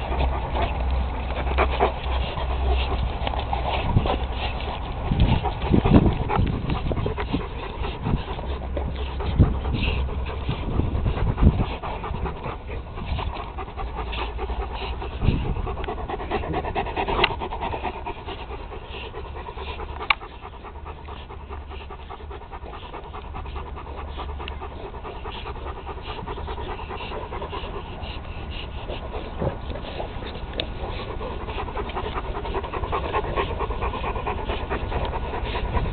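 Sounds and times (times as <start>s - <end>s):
dogs breathing hard: 0.0s - 35.9s.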